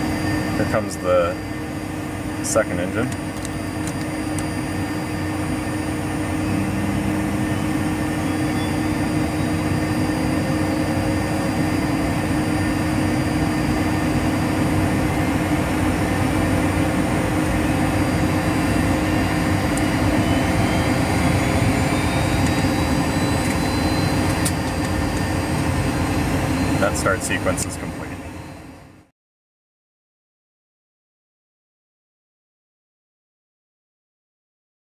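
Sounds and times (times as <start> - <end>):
jet engine hum: 0.0 - 29.1
jet engine starting whine: 0.0 - 29.1.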